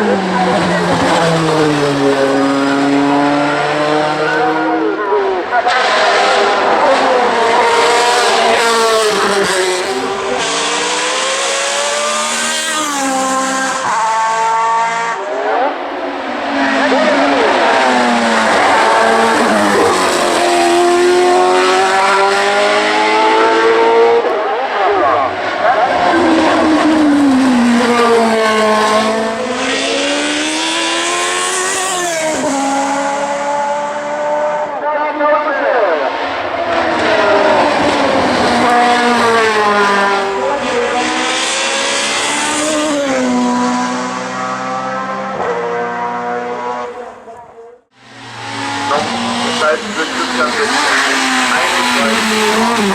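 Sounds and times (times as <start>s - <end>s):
race car engine revving: 0.0s - 34.8s, 36.0s - 52.9s.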